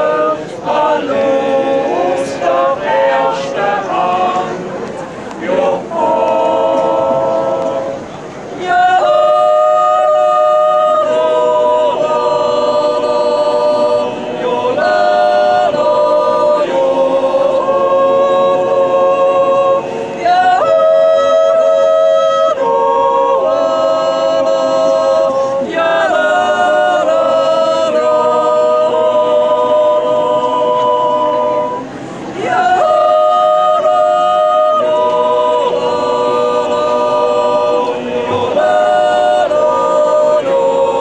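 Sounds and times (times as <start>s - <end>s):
choir yodeling a cappella: 0.0s - 41.0s.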